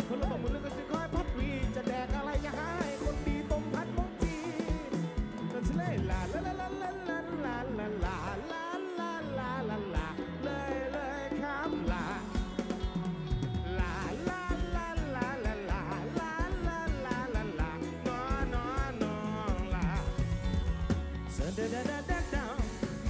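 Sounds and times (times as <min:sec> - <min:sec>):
steady drumbeat: 0:00.0 - 0:07.0, 0:10.0 - 0:23.0
electric guitars and bass: 0:00.0 - 0:23.0
man singing: 0:00.0 - 0:23.0.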